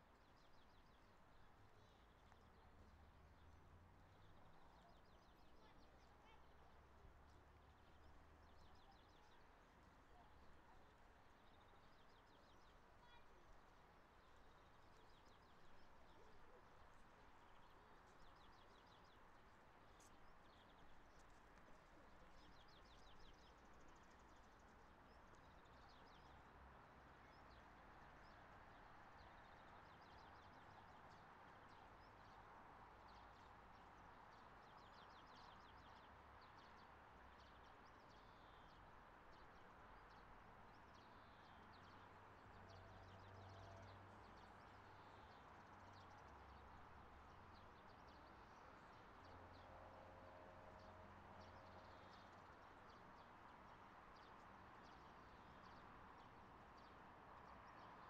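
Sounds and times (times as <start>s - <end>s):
faint background noise: 0.0s - 58.0s
faint songbirds chirping: 0.0s - 58.0s.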